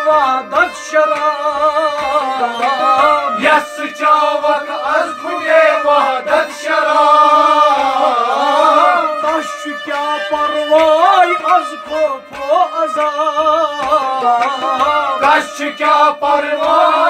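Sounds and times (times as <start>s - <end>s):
harmonium: 0.0s - 17.0s
men singing: 0.0s - 17.0s
rabab: 0.0s - 17.0s
sarangi: 0.0s - 17.0s.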